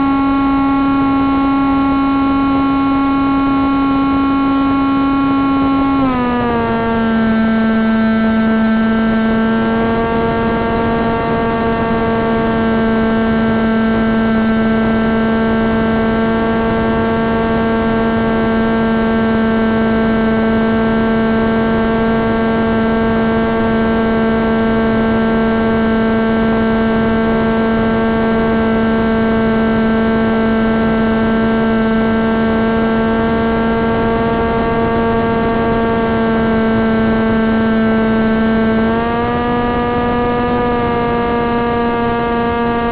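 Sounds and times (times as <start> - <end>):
electric motor spinning propeller: 0.0 - 42.9.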